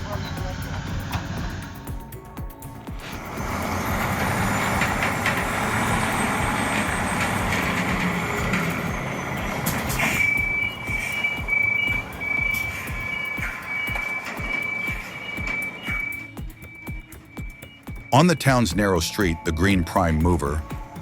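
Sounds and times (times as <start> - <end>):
heavy truck rumbling: 0.0 - 21.0
reversing alarm beeping: 0.0 - 21.0.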